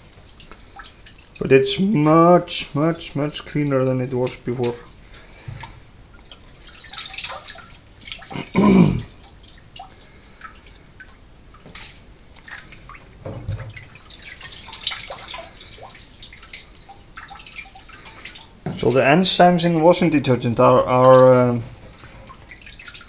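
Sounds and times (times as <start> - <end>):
water dripping: 0.0 - 23.0
wet squelches: 0.0 - 23.0.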